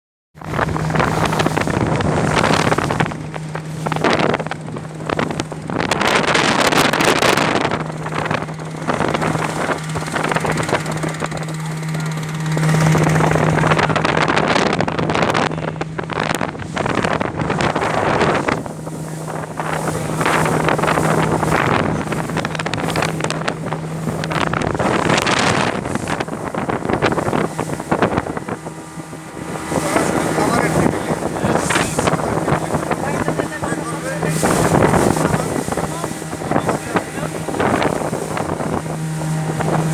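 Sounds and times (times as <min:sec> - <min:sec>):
motorboat engine humming: 0:00.3 - 0:39.9
wind buffeting microphone: 0:00.4 - 0:39.9.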